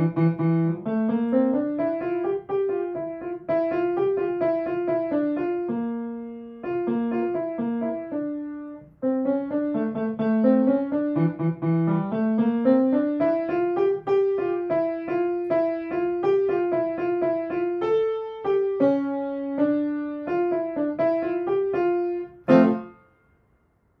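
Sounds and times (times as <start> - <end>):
grand piano melody: 0.0 - 23.1.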